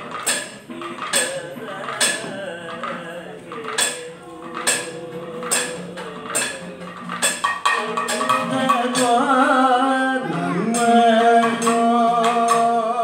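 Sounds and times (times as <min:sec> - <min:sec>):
metallic percussion clangs: 0:00.0 - 0:12.9.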